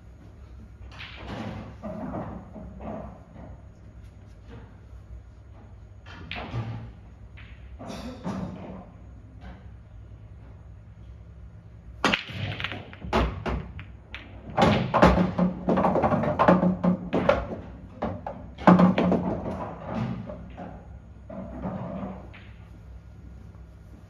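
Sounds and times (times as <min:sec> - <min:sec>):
pool balls clacking: 0:00.2 - 0:09.7, 0:12.0 - 0:23.7.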